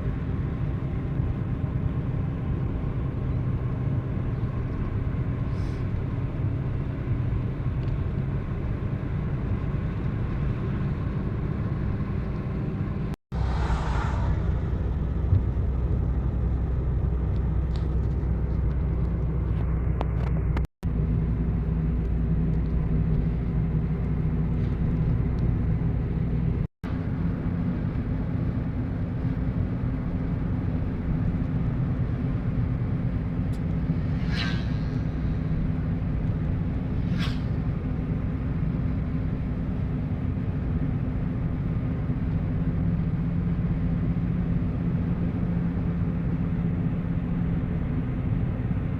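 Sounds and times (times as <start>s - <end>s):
low road rumble: 0.0s - 48.9s.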